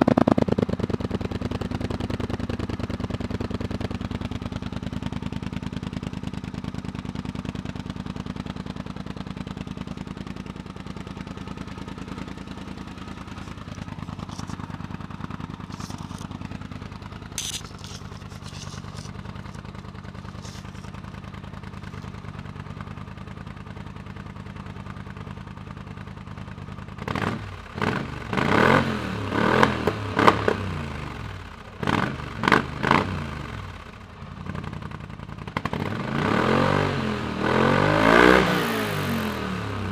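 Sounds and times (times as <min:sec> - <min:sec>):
atv engine idling and revving: 0:00.0 - 0:39.9.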